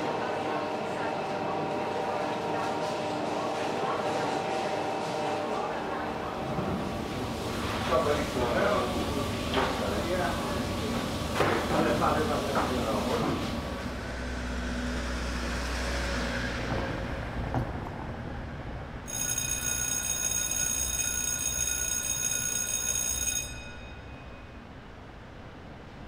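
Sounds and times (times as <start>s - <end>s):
street traffic rumbling: 4.5s - 26.0s.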